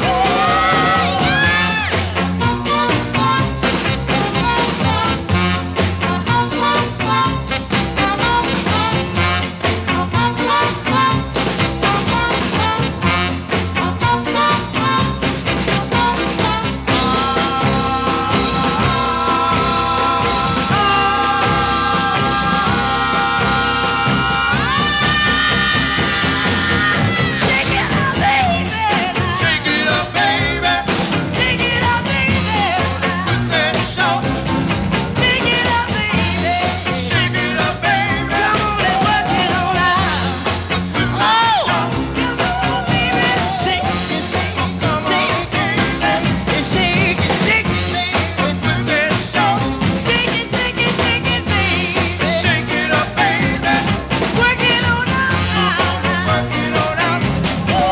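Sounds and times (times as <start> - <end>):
drums and percussion: 0.0 - 57.9
rock and roll music: 0.0 - 57.9.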